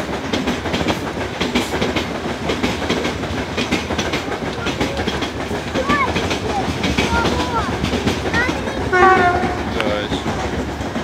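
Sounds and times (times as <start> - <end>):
freight train rumble: 0.0 - 11.0
wheels clicking over rail joints: 0.0 - 11.0.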